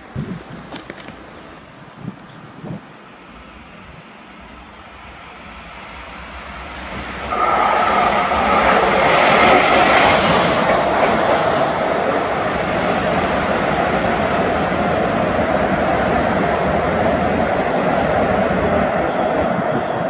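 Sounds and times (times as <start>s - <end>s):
train wheels and machinery rushing: 0.0s - 20.0s.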